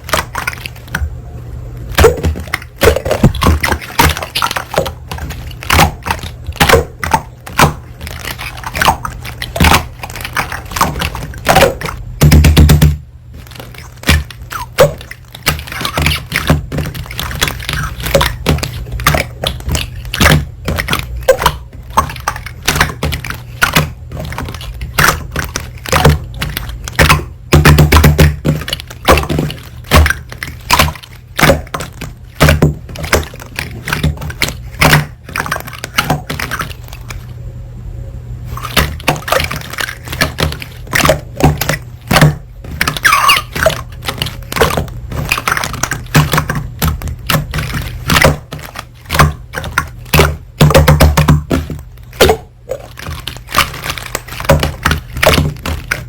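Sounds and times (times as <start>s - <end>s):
slime popping and crackling: 0.0s - 1.2s, 1.8s - 37.2s, 38.5s - 56.0s
steady low hum: 0.0s - 56.0s.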